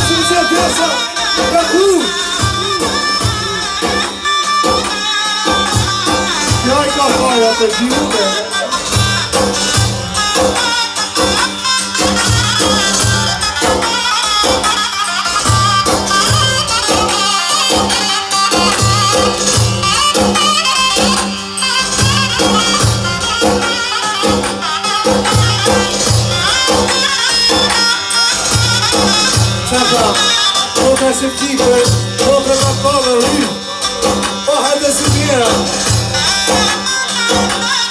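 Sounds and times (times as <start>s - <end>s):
steady drum beat: 0.0s - 14.8s, 21.9s - 37.7s
folk-style music: 0.0s - 37.9s
jingling percussion: 0.0s - 37.9s.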